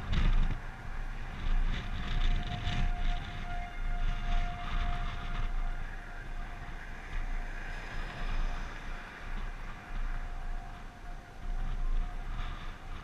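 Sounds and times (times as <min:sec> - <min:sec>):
warning siren steady tone: 0:00.0 - 0:13.0
wind buffeting microphone: 0:00.0 - 0:13.0.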